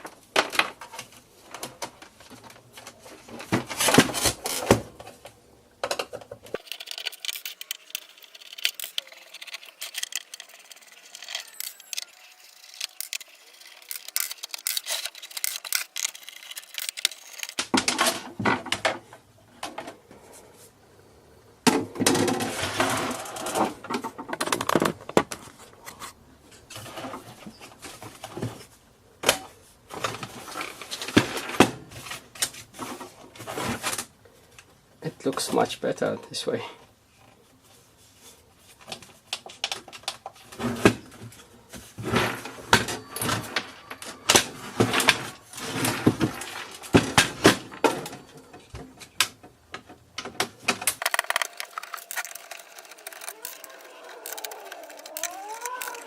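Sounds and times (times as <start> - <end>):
small parts and tools clattering: 0.0 - 20.0, 21.7 - 36.4, 38.7 - 56.0.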